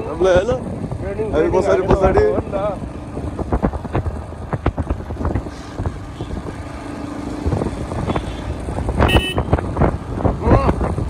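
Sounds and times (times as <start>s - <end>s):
road rumble: 0.0s - 11.0s
wind buffeting microphone: 0.0s - 11.0s
motorcycle engine running: 2.0s - 11.0s.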